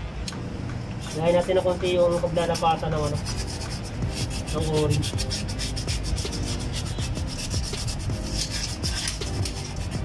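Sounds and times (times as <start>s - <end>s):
sandpaper rubbing metal: 1.0s - 10.0s.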